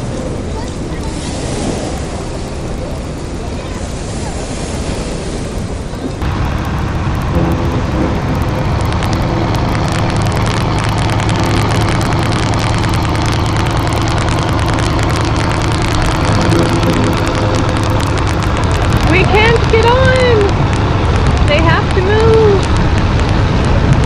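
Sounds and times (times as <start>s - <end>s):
boat engine humming: 0.0s - 24.0s
wind and surf hiss: 0.0s - 24.0s
wind buffeting microphone: 0.0s - 24.0s.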